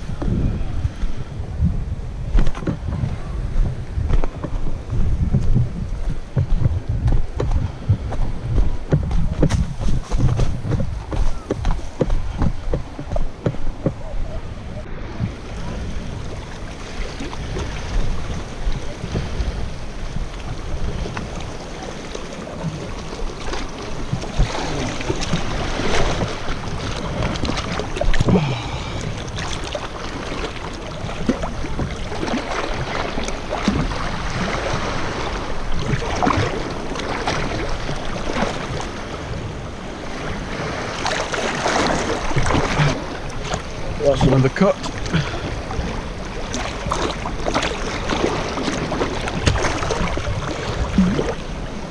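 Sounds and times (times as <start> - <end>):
wind rumbling on microphone: 0.0 - 51.9
water splashing around swimmer: 5.3 - 51.9.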